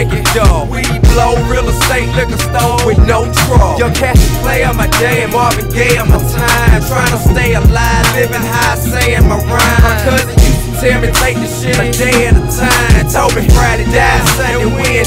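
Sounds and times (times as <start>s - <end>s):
hip hop music with heavy bass: 0.0s - 15.0s.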